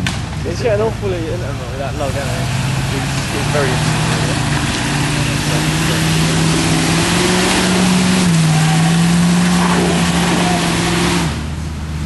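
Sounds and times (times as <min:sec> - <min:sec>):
off-road vehicle engine under load: 0:00.0 - 0:12.0
steady rushing noise: 0:00.0 - 0:12.0.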